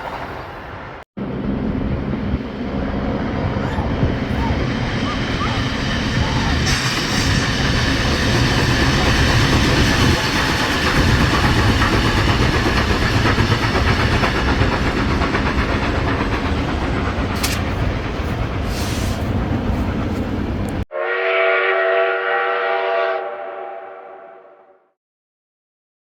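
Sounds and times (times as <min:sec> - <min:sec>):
train rumbling on rails: 0:00.0 - 0:20.9.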